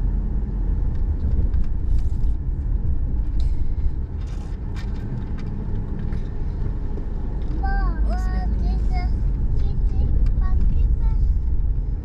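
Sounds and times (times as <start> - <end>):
tyres rumbling on gravel road: 0.0 - 12.0.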